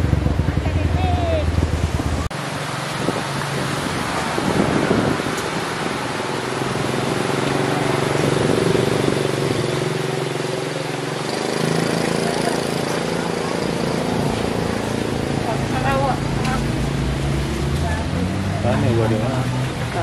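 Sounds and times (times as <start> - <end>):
constant rushing noise: 0.0 - 20.0
vehicle engine humming: 0.0 - 20.0.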